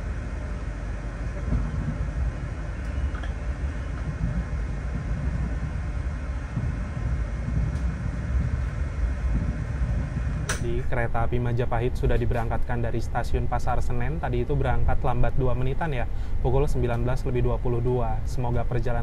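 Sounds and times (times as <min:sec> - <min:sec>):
train rumbling from inside carriage: 0:00.0 - 0:19.0.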